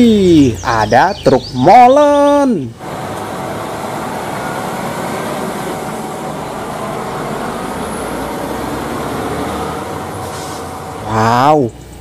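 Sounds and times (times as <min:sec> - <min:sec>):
road noise: 0:00.0 - 0:12.0
truck diesel engine passing: 0:00.0 - 0:12.0.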